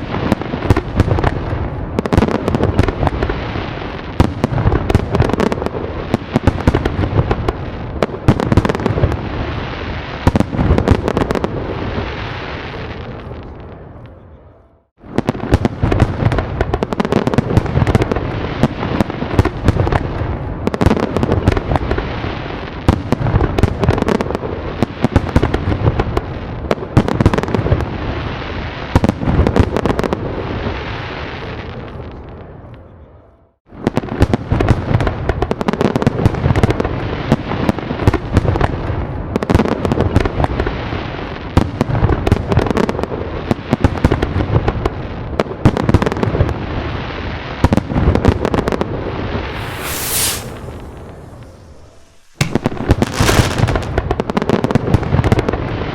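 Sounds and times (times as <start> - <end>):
fireworks bangs and crackling: 0.0 - 14.2, 15.0 - 32.9, 33.7 - 55.9.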